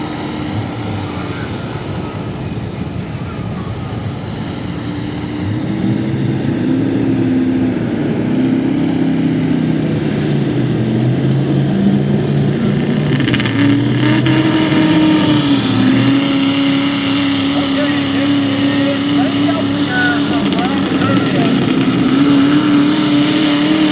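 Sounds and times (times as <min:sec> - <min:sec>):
truck engine revving hard: 0:00.0 - 0:23.9.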